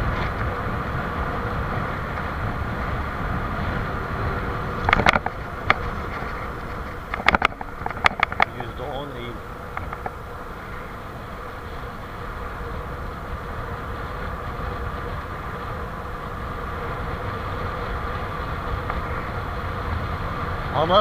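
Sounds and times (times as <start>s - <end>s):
bicycle tyres rumbling on road: 0.0s - 21.0s
wind rushing over microphone: 0.0s - 21.0s.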